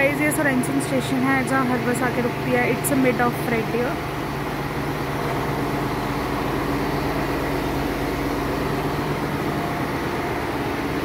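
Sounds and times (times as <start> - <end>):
bus engine droning: 0.0 - 11.0.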